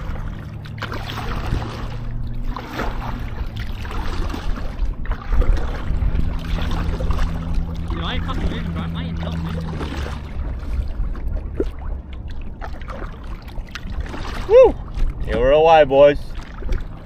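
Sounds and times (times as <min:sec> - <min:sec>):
kayak paddle splashing: 0:00.0 - 0:17.0
water slapping a hull: 0:00.0 - 0:17.0
wind rumble on microphone: 0:00.0 - 0:17.0.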